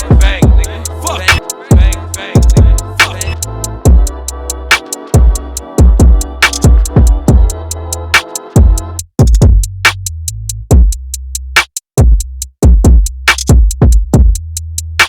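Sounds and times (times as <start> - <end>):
hip-hop instrumental beat: 0.0 - 15.0.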